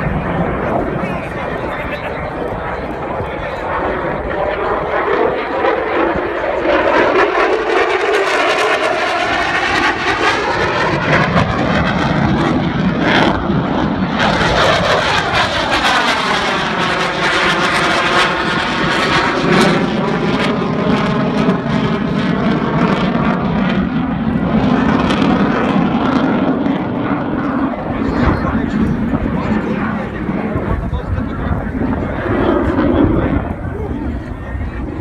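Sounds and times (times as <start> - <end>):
fighter jets roaring past: 0.0 - 35.0.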